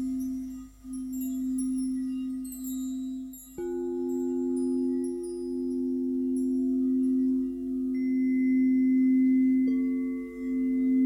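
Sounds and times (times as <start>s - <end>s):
faint high ringing tones: 0.0s - 11.0s
singing bowls ringing: 0.0s - 11.0s.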